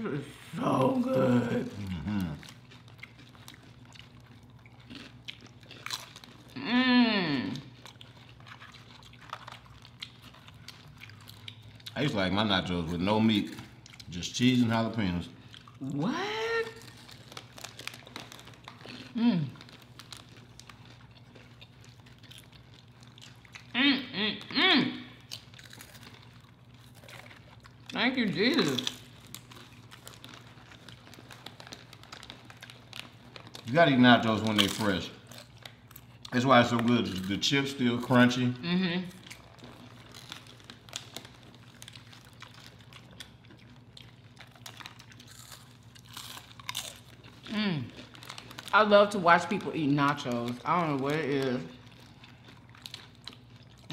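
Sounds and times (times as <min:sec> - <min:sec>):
crunching chips: 0:00.6 - 0:53.9.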